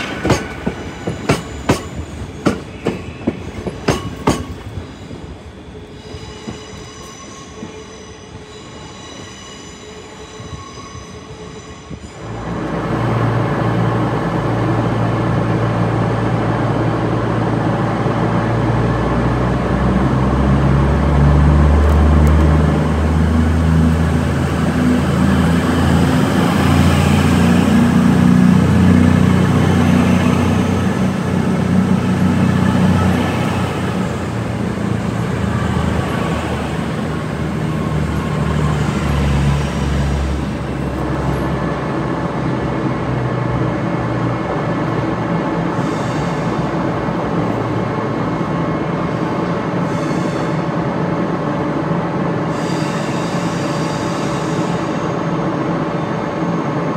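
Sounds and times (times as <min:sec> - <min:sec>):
diesel train engine drone: 0:11.2 - 0:56.9.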